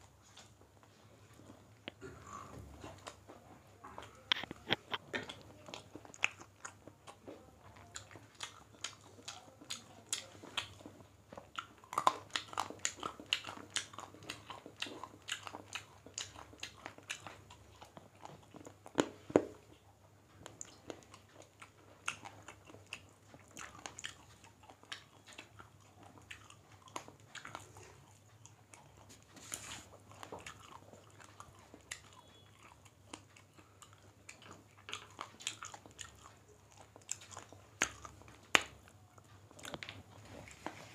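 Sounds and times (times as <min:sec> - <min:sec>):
faint steady hum: 0:00.0 - 0:40.9
people chewing: 0:00.0 - 0:40.9.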